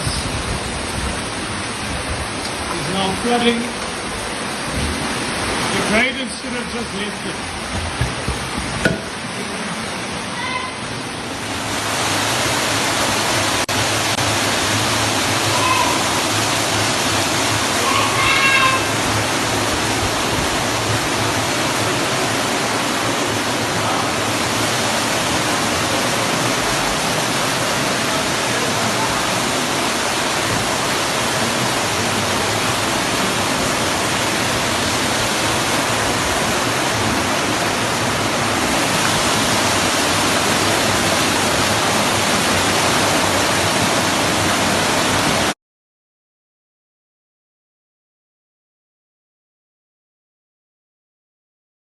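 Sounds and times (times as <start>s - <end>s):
floodwater rushing: 0.0s - 45.6s.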